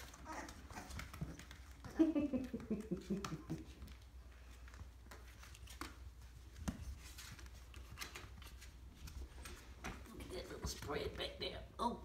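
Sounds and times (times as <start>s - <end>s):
paws scratching and rustling cloth: 0.0s - 11.1s.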